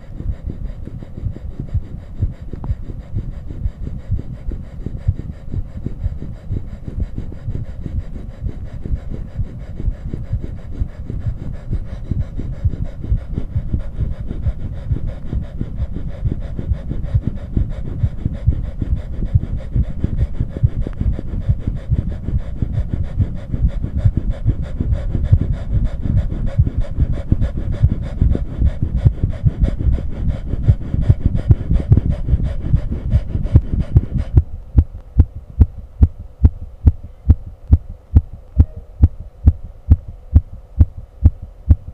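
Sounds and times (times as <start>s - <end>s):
fast heartbeat: 0.0s - 41.9s
heavy panting breaths: 0.0s - 41.9s.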